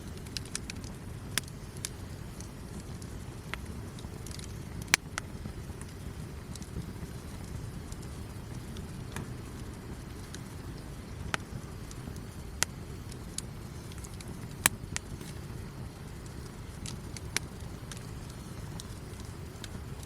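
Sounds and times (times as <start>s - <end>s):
burning wood popping: 0.0s - 20.0s
campfire low rumble: 0.0s - 20.0s.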